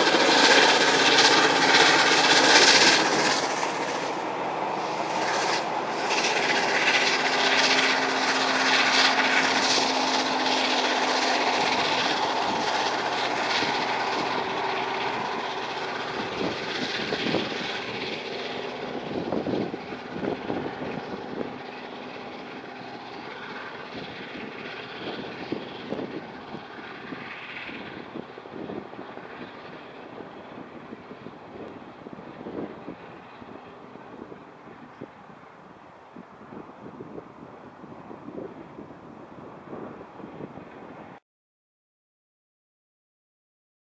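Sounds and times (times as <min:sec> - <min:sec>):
train rumble and rail noise: 0:00.0 - 0:41.2.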